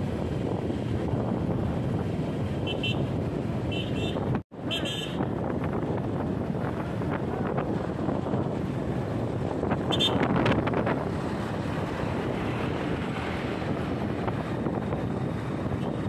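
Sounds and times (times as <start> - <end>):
engine and tyre rumble: 0.0 - 16.0
wind buffeting microphone: 0.0 - 16.0.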